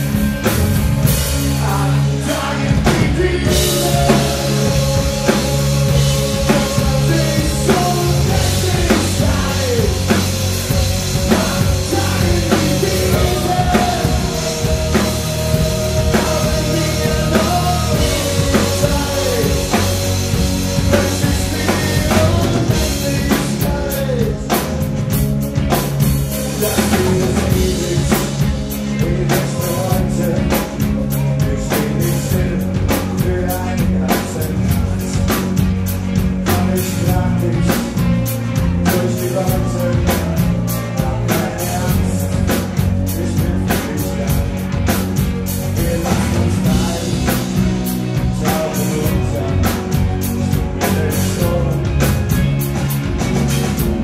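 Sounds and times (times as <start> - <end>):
drum kit beat: 0.0 - 54.0
live rock band playing: 0.0 - 54.0.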